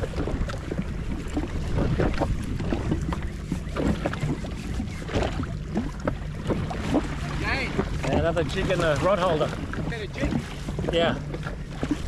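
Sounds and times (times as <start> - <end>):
splashes and knocks: 0.0 - 12.0
water sloshing: 0.0 - 12.0
wind buffeting microphone: 0.0 - 12.0.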